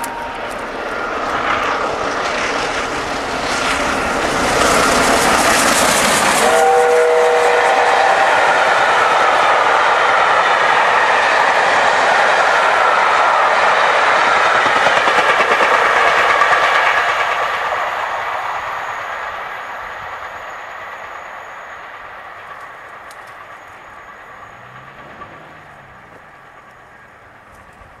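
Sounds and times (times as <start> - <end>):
passenger train passing at speed: 0.0 - 28.0.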